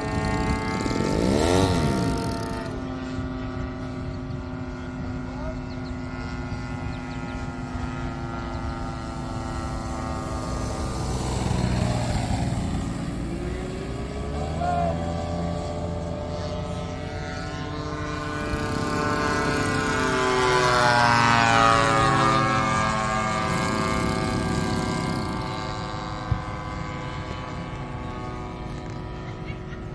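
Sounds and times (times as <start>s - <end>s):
model airplanes droning overhead: 0.0s - 29.9s.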